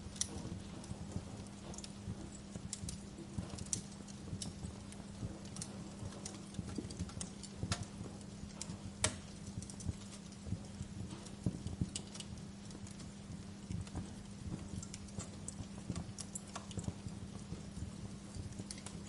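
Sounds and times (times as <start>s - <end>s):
steady low hum: 0.0s - 19.0s
wood fire crackling: 0.0s - 19.0s.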